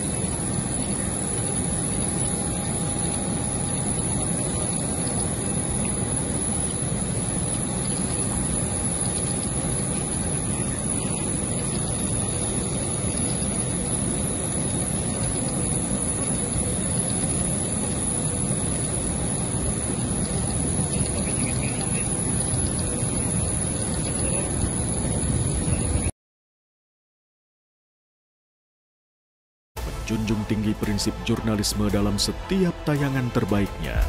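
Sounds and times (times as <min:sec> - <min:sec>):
jet turbines rushing and whining: 0:00.0 - 0:26.1, 0:29.8 - 0:34.0.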